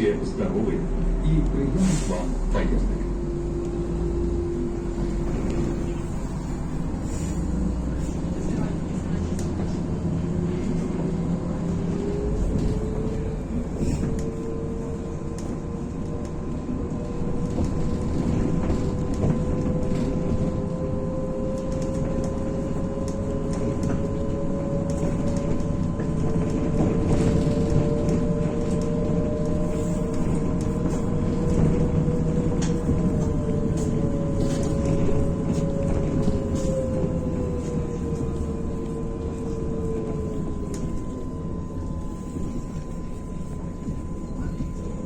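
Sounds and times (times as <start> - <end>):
bus engine running: 0.0 - 45.0.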